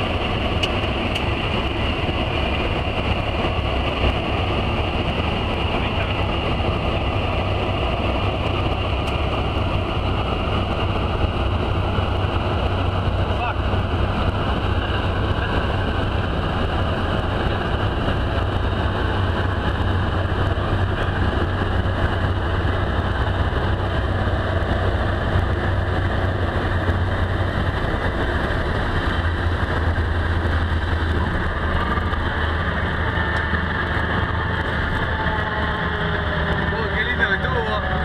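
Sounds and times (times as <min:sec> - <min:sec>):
aircraft engine droning: 0:00.0 - 0:38.0.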